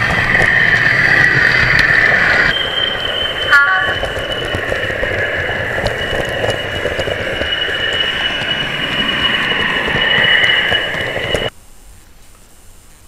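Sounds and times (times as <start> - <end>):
diesel locomotive engine running: 0.0 - 11.5
turbocharger whistle: 0.0 - 11.5.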